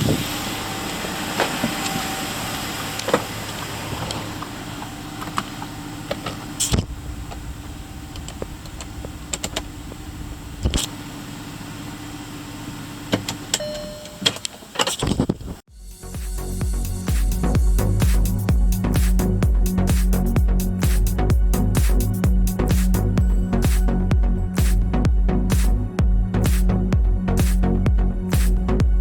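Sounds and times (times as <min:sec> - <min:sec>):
car engine idling: 0:00.0 - 0:14.8, 0:15.7 - 0:29.0.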